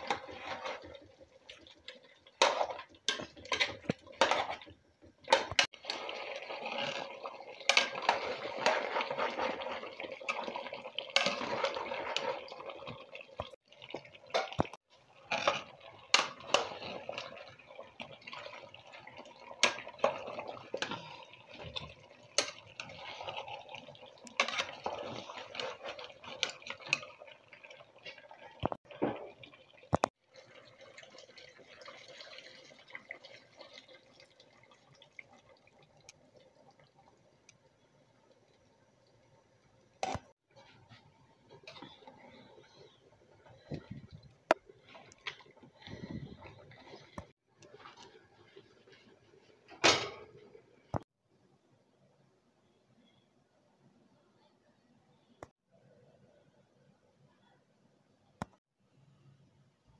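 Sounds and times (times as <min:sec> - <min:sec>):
curry bubbling and sizzling in pot: 0:00.0 - 0:51.2.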